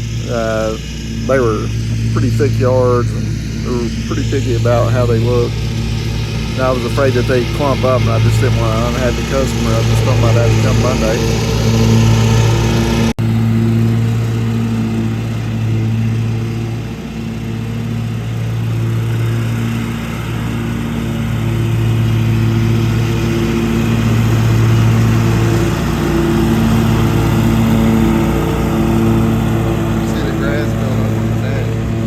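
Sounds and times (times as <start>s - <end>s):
lawn mower engine running: 0.0s - 32.0s.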